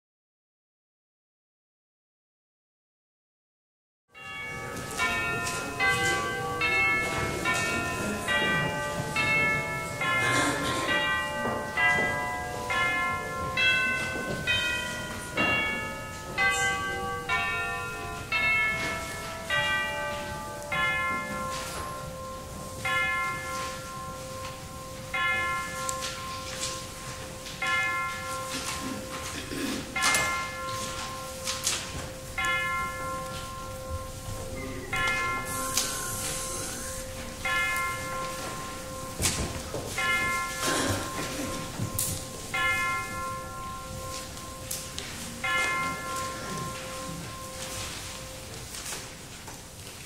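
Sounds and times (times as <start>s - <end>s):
church bells chiming a melody: 4.2s - 50.0s.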